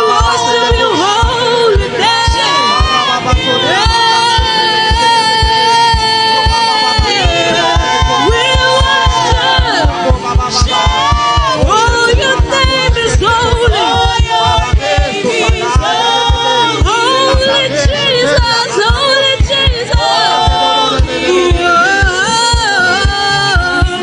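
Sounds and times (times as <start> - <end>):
band playing worship music: 0.0 - 24.0
steady drum beat: 0.0 - 24.0
voices singing: 0.0 - 24.0.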